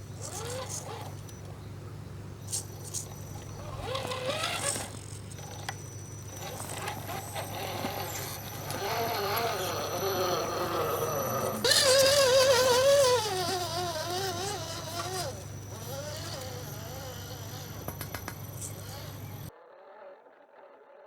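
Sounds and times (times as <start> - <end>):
electric motor and gearbox whining: 0.0 - 1.7, 2.3 - 19.5.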